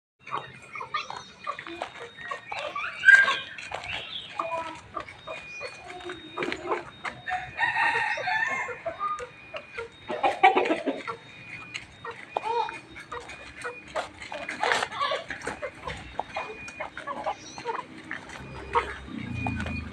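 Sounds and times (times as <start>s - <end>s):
chickens clucking and squawking: 0.2s - 19.9s
rooster calling: 0.3s - 19.9s.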